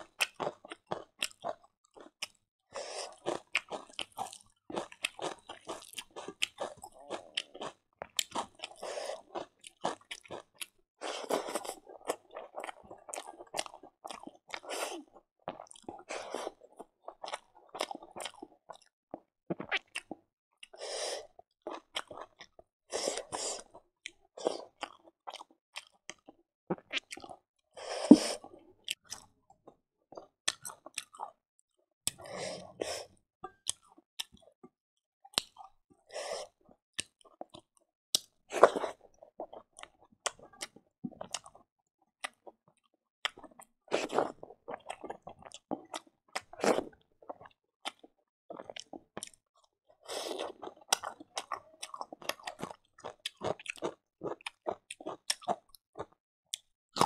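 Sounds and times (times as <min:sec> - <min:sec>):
person chewing and crunching: 0:00.0 - 0:27.4, 0:28.0 - 0:31.4, 0:35.3 - 0:41.6, 0:43.2 - 0:57.0.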